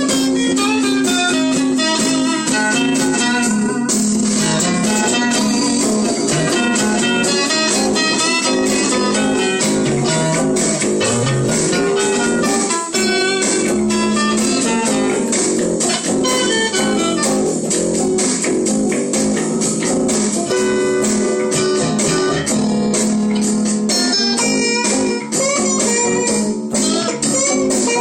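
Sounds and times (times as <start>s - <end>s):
blues guitars jamming: 0.0s - 28.0s.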